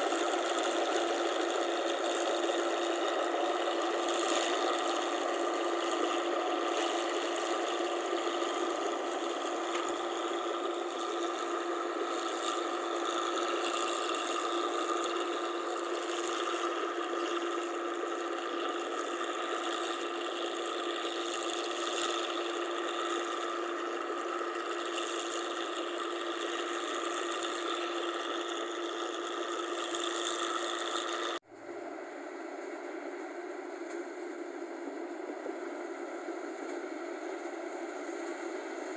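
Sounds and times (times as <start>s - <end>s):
combine harvester clatter: 0.0s - 31.4s, 32.5s - 38.9s
quieter machine running: 0.0s - 38.9s.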